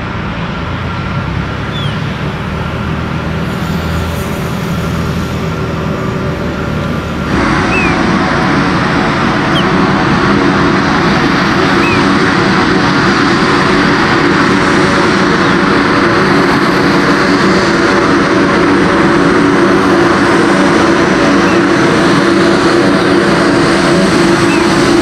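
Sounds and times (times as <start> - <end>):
turboprop engines droning: 0.0 - 25.0.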